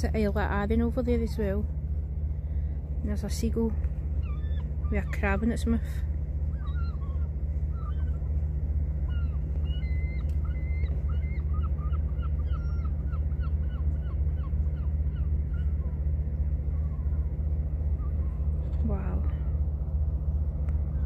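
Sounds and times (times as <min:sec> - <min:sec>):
gulls calling: 0:00.0 - 0:21.0
low rumble: 0:00.0 - 0:21.0.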